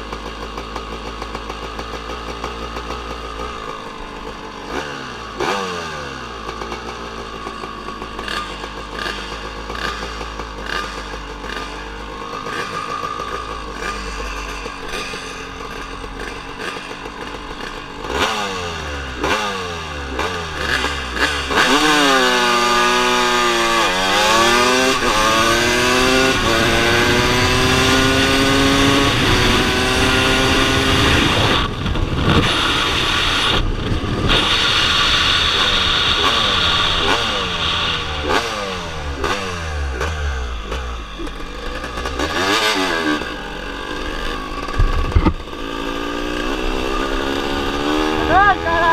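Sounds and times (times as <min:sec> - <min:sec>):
motorcycle accelerating through gears: 0:00.0 - 0:48.9
motorcycle engines revving: 0:00.0 - 0:48.9.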